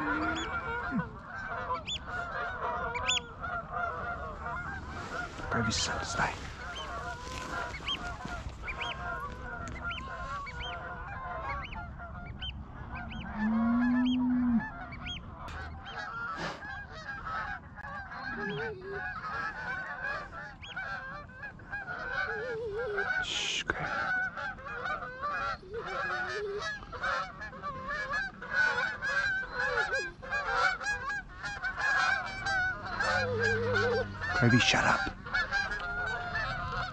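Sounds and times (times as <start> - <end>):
geese honking: 0.0 - 36.9.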